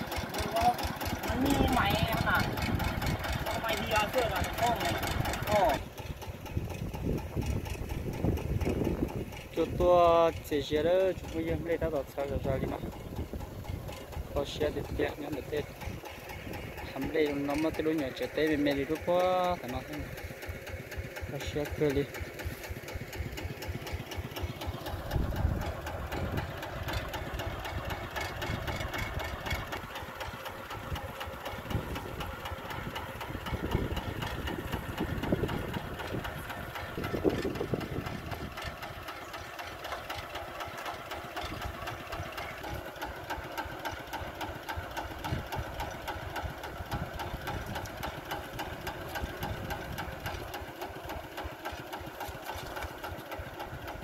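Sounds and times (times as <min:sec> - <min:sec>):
engine running with rapid knock: 0:00.0 - 0:54.0.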